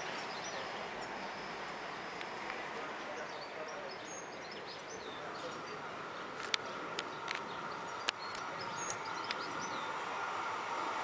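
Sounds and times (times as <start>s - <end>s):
distant train approaching: 0.0s - 3.2s, 4.3s - 11.0s
small birds chirping: 0.0s - 10.1s
steady outdoor hum: 0.0s - 11.0s.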